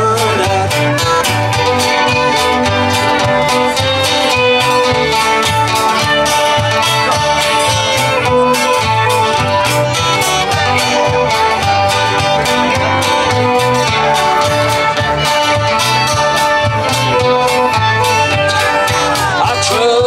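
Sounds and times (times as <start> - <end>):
acoustic guitars strummed and picked: 0.0 - 20.0
fiddle holding long notes: 0.0 - 20.0
steady drum beat: 0.0 - 20.0.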